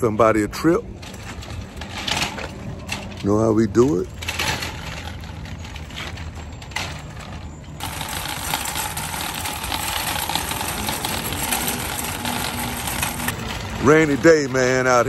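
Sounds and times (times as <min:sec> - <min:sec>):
shopping cart rattling on asphalt: 0:00.0 - 0:15.0.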